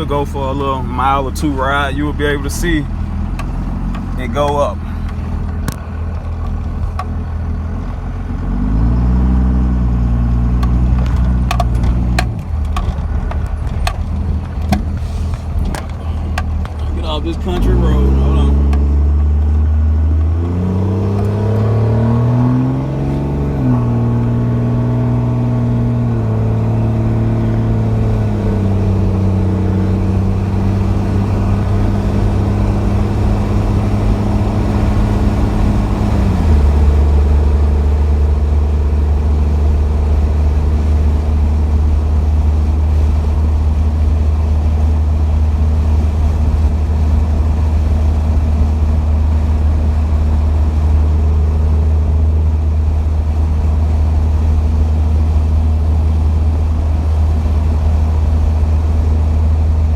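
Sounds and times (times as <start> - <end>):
diesel truck engine accelerating: 0.0 - 59.9.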